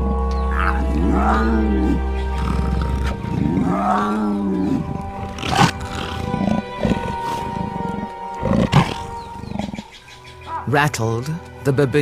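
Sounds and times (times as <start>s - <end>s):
animal growling call: 0.0s - 9.9s
soundtrack music: 0.0s - 12.0s.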